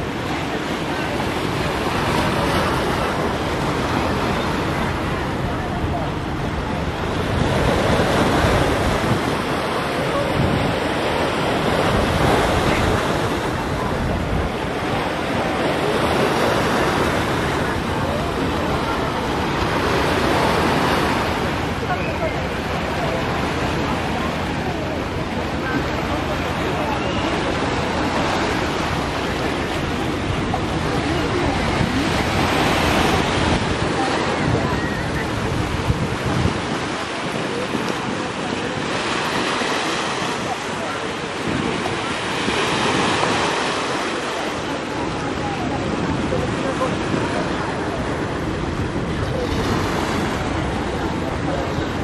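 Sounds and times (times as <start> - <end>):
sea waves: 0.0 - 52.0
wind rumbling on microphone: 0.0 - 52.0.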